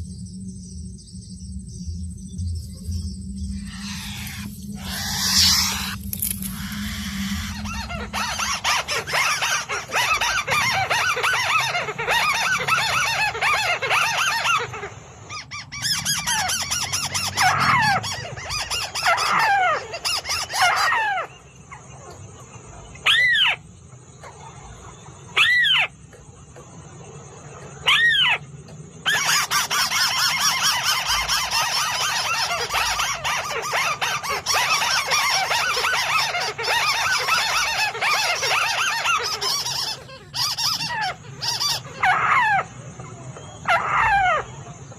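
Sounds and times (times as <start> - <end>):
bird chattering and calling: 2.8 - 26.0, 27.6 - 44.9.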